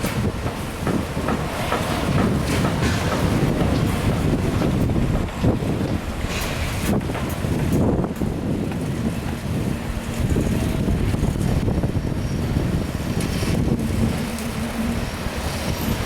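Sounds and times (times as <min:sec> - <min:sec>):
heavy machinery rumbling: 0:00.2 - 0:16.0.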